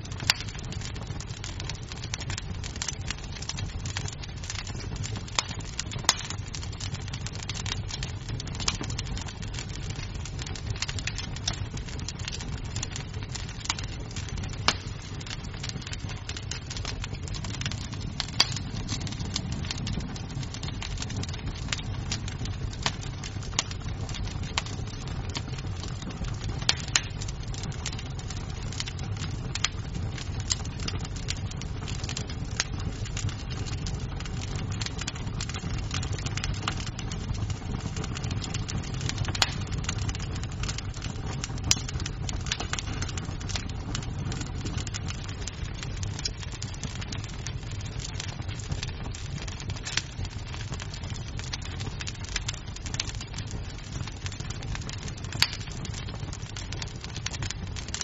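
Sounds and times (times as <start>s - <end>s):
burning wood popping and snapping: 0.0s - 58.0s
low rumble of flames: 0.0s - 58.0s.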